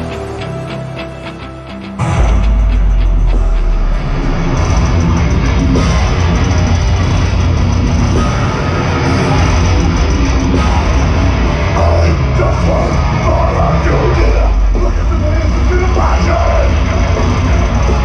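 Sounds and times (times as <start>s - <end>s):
live heavy metal band: 0.0s - 18.0s.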